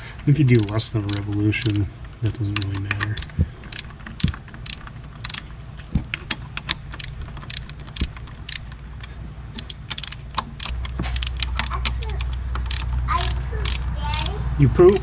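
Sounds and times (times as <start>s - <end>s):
steady low hum: 0.0s - 15.0s
hand ratchet clicking: 0.5s - 1.8s, 2.5s - 5.5s, 6.1s - 14.4s.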